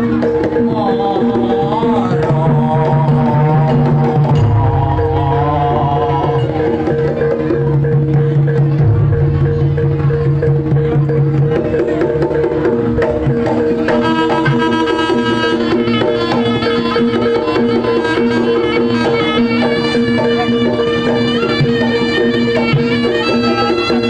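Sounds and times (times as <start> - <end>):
steady held tones: 0.0 - 21.6
hand drums beating fast: 0.0 - 24.0
reed pipe melody: 0.0 - 24.0.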